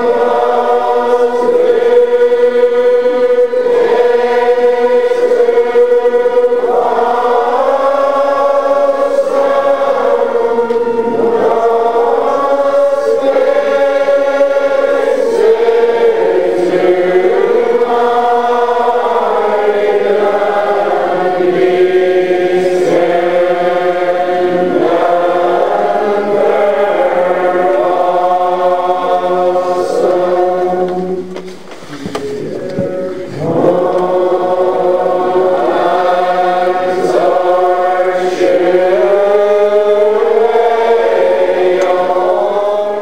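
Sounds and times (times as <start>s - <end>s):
large crowd singing unaccompanied: 0.0s - 43.0s.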